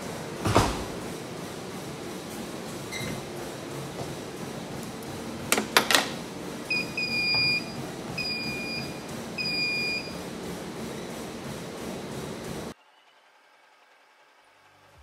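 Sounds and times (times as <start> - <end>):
treadmill console beeping: 0.0 - 12.8.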